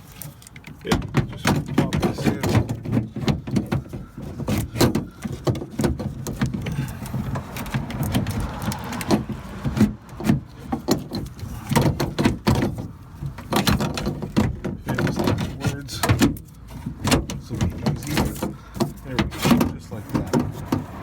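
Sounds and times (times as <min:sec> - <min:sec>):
scraping: 0:00.0 - 0:21.0.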